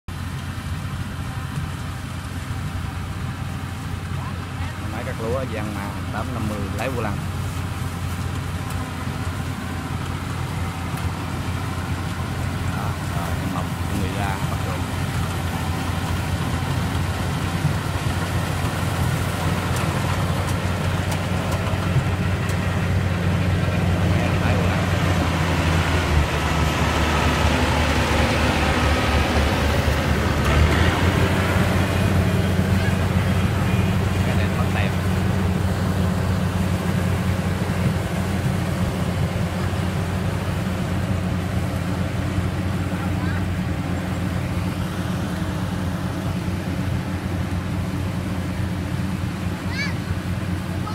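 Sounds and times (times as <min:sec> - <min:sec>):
combine harvester running: 0:00.1 - 0:50.9.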